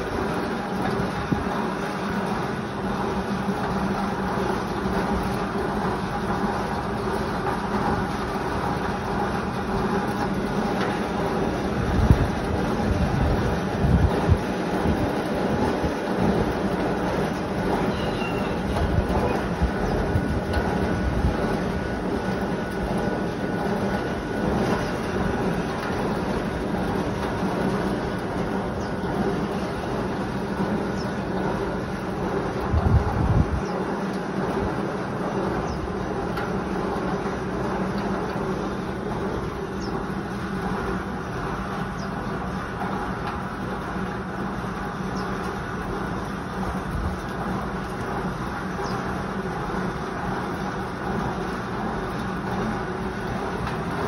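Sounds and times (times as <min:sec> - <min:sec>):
electric fan whooshing hum: 0:00.0 - 0:54.0.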